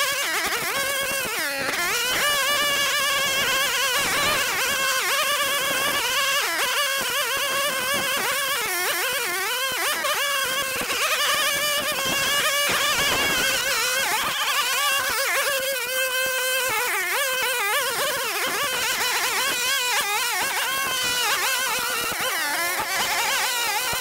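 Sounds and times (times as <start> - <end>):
string trimmer cutting grass: 0.0 - 24.0.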